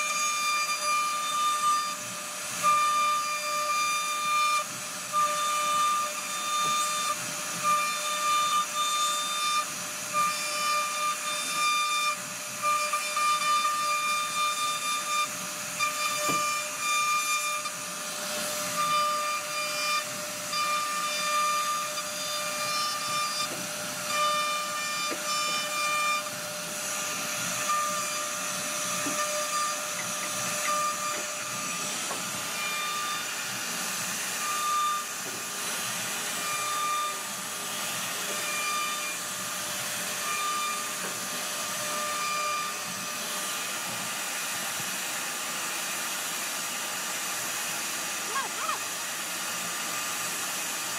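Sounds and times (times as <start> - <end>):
hiss of wood cutting: 0.0 - 50.9
router spindle whining: 0.0 - 50.9.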